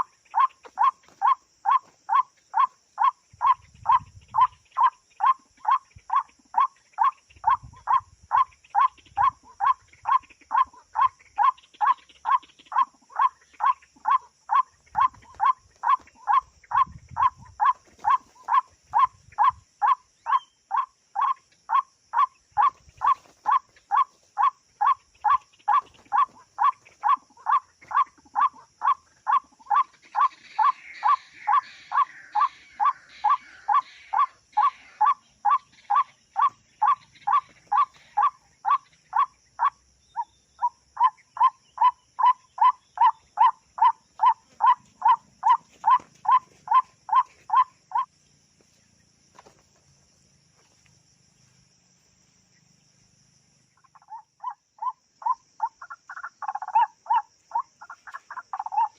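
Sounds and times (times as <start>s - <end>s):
waterhen calling: 0.0s - 39.8s, 40.6s - 48.1s, 53.8s - 58.9s.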